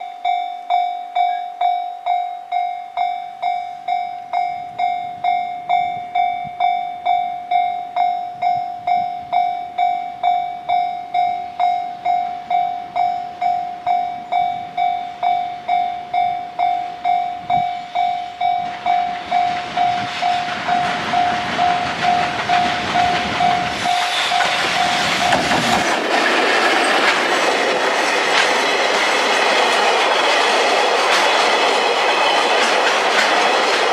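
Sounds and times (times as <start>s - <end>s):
crossing warning bell ringing: 0.0s - 33.9s
freight train rumble and clickety-clack: 3.8s - 33.9s.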